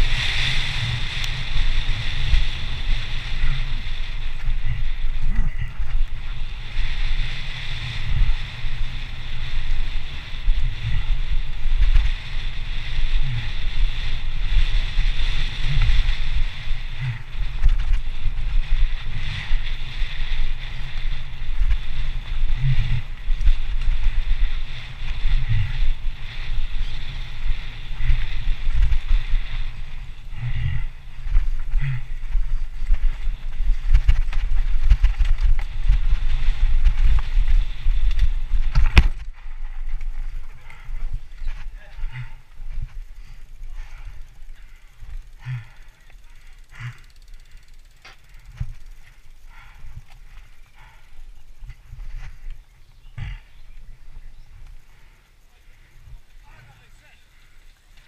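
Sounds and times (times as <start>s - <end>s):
wind buffeting microphone: 0.0s - 57.6s
steady high whir: 0.0s - 57.9s
bike knocking and rattling: 0.0s - 58.0s.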